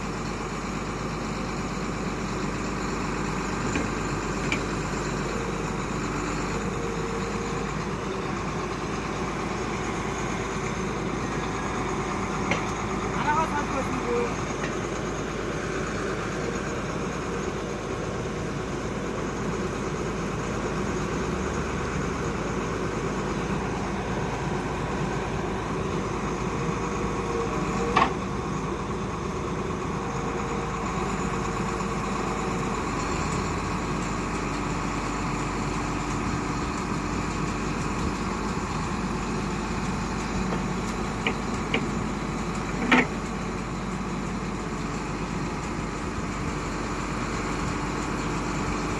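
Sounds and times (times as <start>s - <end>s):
core drilling rig running: 0.0s - 48.9s.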